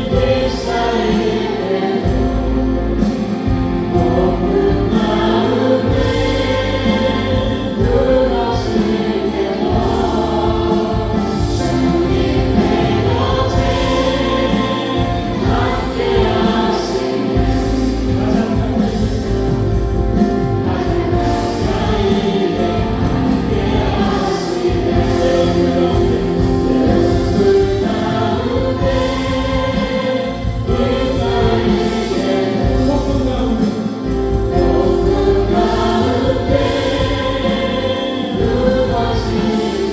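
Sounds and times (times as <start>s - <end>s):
praise band playing: 0.0s - 39.9s
voices singing together: 0.0s - 39.9s.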